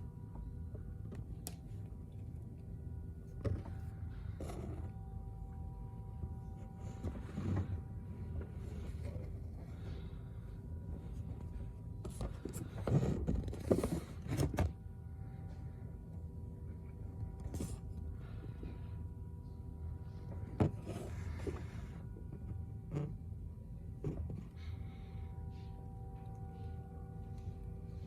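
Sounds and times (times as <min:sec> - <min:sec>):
faint steady multi-pitch tone: 0:00.0 - 0:28.0
low background rumble: 0:00.0 - 0:28.0.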